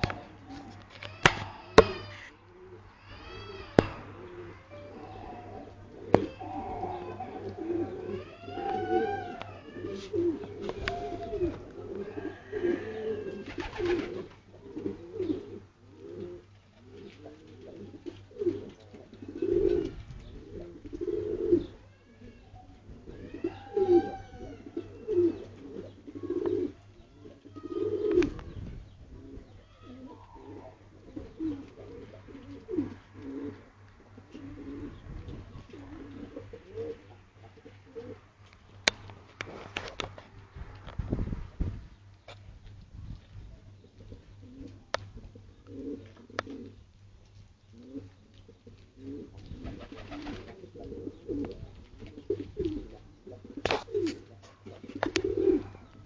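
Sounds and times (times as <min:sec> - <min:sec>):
pigeons cooing: 0:00.0 - 0:40.1, 0:43.6 - 0:56.0.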